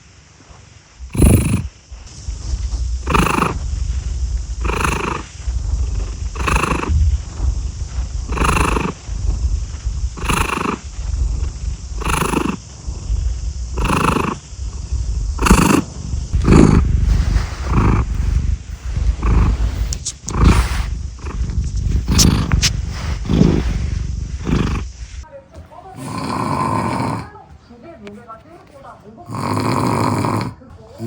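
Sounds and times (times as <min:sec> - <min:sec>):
cat purring: 0:01.0 - 0:27.7, 0:28.8 - 0:31.0.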